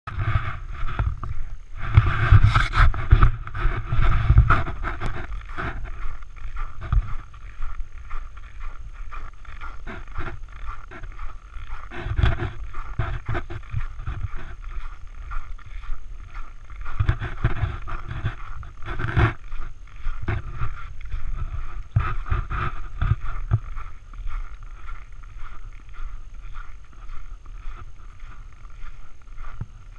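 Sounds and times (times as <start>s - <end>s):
rumbling and scraping on snowy road: 0.1s - 29.9s.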